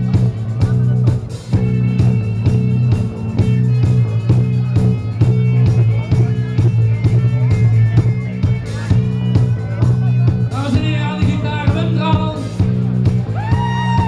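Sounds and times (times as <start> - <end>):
bass guitar: 0.0 - 14.0
drums: 0.0 - 14.0
strummed electric guitars: 0.0 - 14.0.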